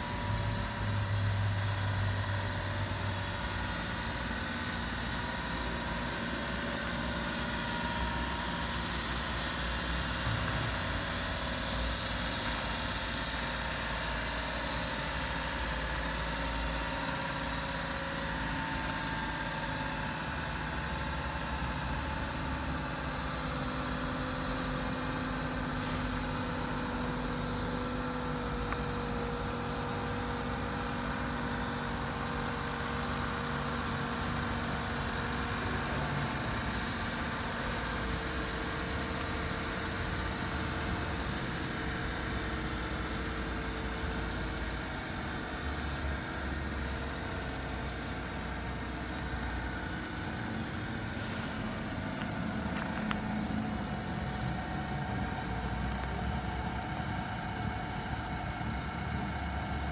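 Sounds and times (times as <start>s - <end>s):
small truck engine idling: 0.0s - 59.9s.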